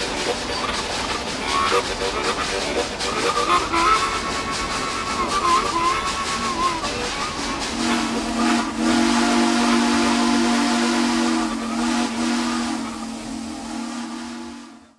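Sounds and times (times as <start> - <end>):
loud hiss of steam: 0.0 - 14.9
steam locomotive whistle: 0.0 - 14.9.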